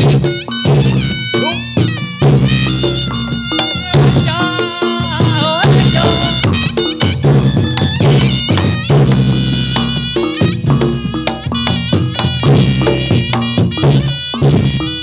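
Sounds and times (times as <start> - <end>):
drum strokes: 0.0 - 15.0
shawm playing wavering melody: 0.0 - 15.0
struck gongs and metallophones: 0.0 - 15.0.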